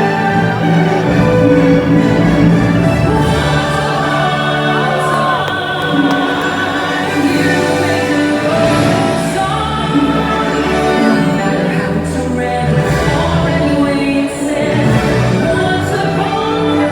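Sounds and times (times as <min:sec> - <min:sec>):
choir singing held notes: 0:00.0 - 0:16.9
orchestral music: 0:00.0 - 0:16.9.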